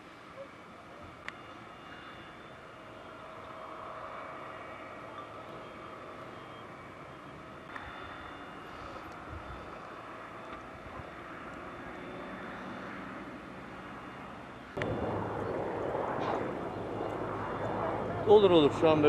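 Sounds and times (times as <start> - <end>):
distant aircraft engine drone: 0.0 - 19.0.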